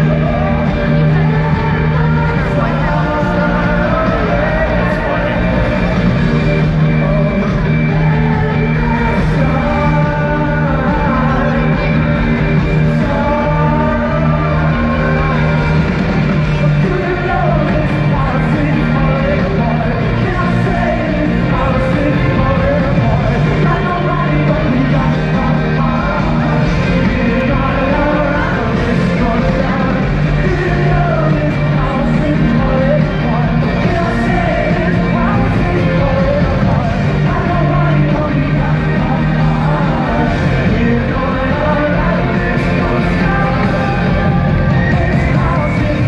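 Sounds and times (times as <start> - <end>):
lead singer singing: 0.0 - 46.0
live rock band playing: 0.0 - 46.0.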